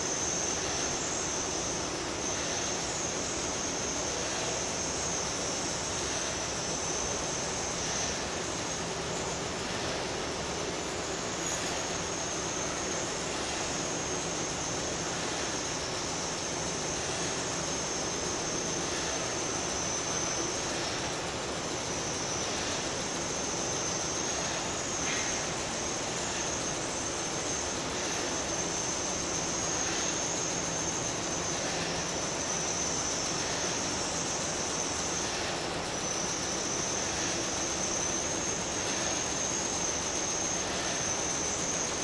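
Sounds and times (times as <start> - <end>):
high wavering whine: 0.0 - 42.0.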